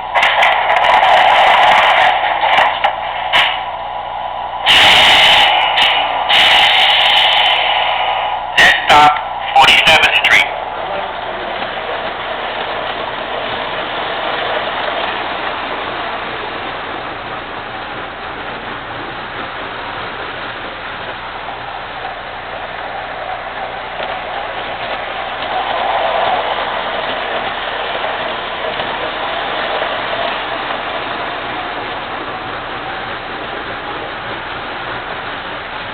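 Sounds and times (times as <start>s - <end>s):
model train running on track: 0.0s - 35.9s.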